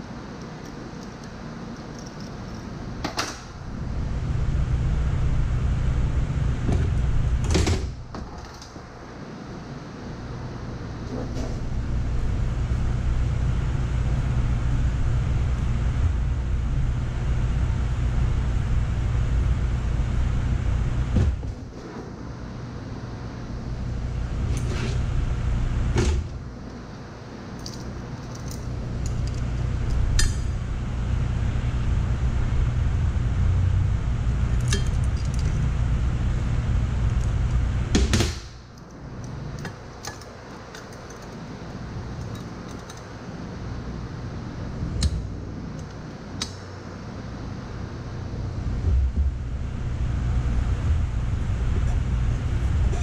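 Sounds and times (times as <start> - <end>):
low hum: 1.8 - 8.1, 8.8 - 53.0.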